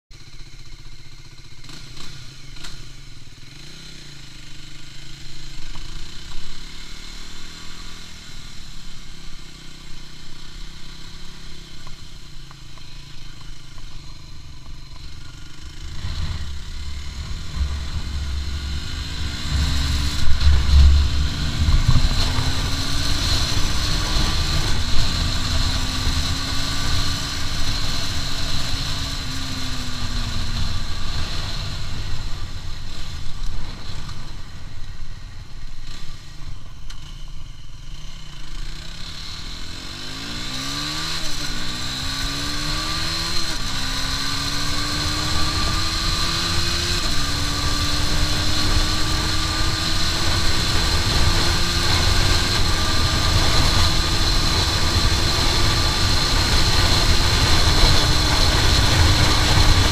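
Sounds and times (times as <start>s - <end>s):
motorcycle engine accelerating: 0.2s - 59.9s.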